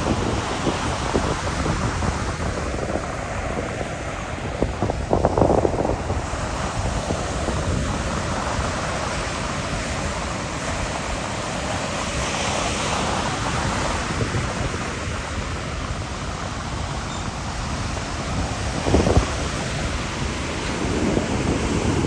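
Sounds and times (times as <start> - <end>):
ocean waves washing on shore: 0.0 - 22.0
wind buffeting microphone: 0.0 - 22.0.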